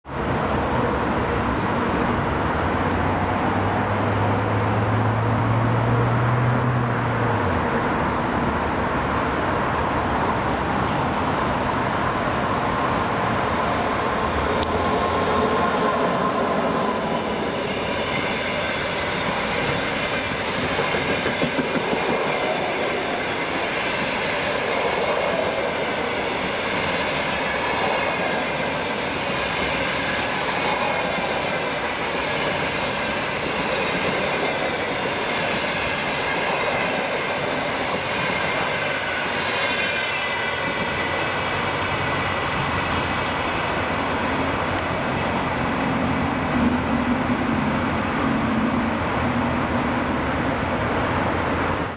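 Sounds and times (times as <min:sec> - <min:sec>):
electric locomotive passing: 0:00.1 - 0:51.9.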